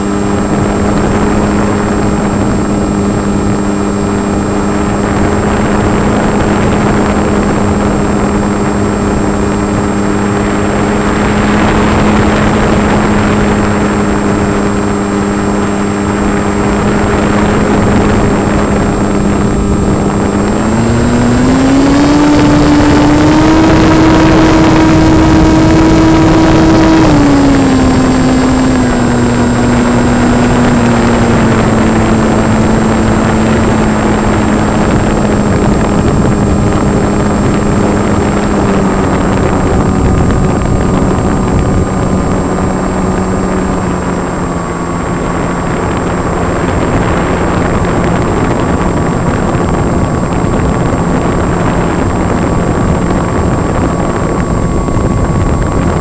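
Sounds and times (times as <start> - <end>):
electric motor and propeller whining: 0.0 - 56.0
wind rush: 0.0 - 56.0.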